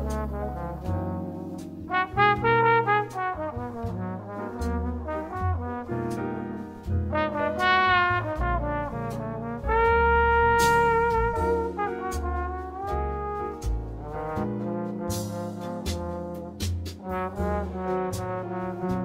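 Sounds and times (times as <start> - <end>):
jazz trombone melody: 0.0 - 19.0.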